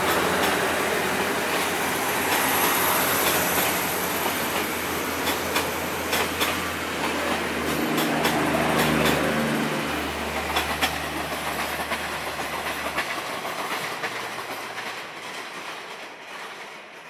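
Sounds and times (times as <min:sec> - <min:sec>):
train wheels rumbling on rails: 0:00.0 - 0:17.0
wheels clicking over rail joints: 0:00.0 - 0:17.0.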